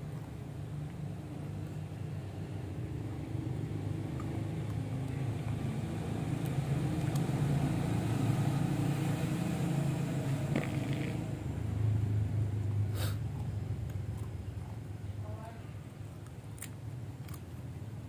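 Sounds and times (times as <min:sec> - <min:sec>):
engine humming: 0:01.0 - 0:16.0.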